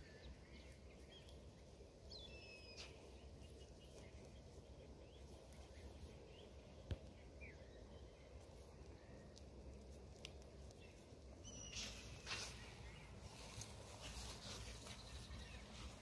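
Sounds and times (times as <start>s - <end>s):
faint bird chirps: 2.0s - 9.6s, 10.7s - 16.0s.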